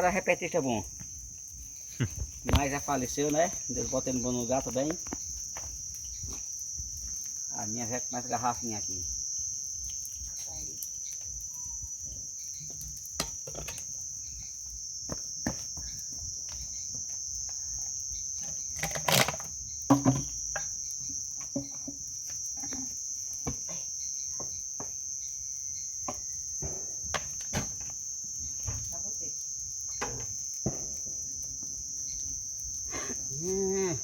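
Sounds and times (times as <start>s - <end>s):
bonfire popping and crackling: 0.0s - 24.0s, 26.3s - 33.9s
crickets chirping: 0.0s - 34.0s.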